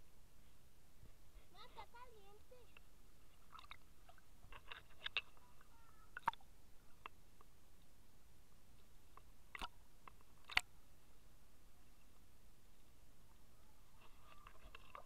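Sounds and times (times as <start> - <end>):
low hiss: 0.0 - 15.0.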